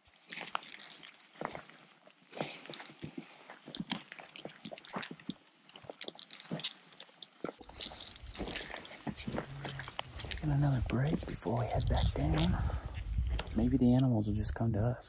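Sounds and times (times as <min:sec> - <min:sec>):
footsteps crunching on dry brush: 0:00.1 - 0:13.8.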